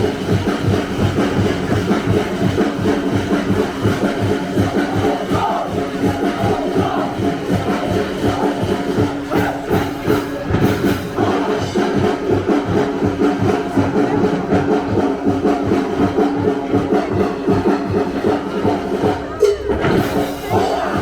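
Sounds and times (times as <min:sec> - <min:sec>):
fast drumbeat: 0:00.0 - 0:21.0.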